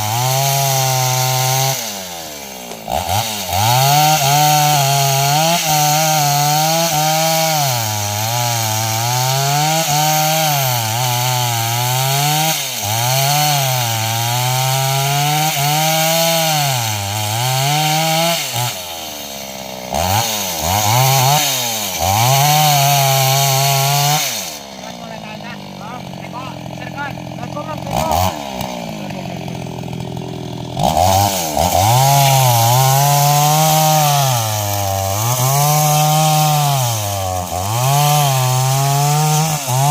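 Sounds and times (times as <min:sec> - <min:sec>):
chainsaw revving under load: 0:00.0 - 0:39.9.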